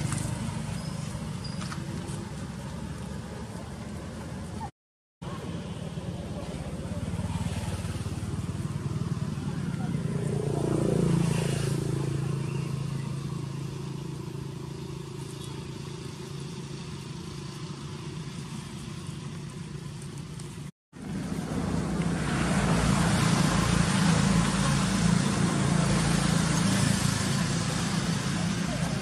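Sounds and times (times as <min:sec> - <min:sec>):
traffic noise: 0:00.0 - 0:29.0
vehicle engine humming: 0:00.0 - 0:29.0.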